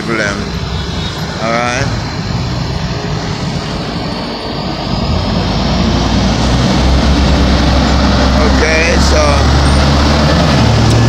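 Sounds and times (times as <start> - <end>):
diesel truck engine rumbling: 0.0 - 11.0
road traffic passing: 0.0 - 11.0.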